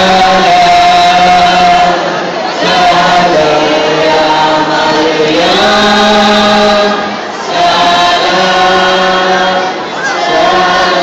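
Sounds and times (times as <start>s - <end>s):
crowd singing a slow chant: 0.0s - 11.0s.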